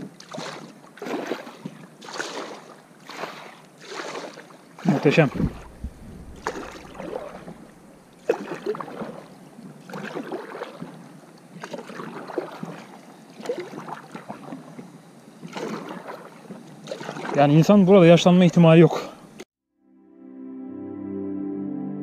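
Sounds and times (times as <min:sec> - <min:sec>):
kayak paddle splashing: 0:00.0 - 0:18.4.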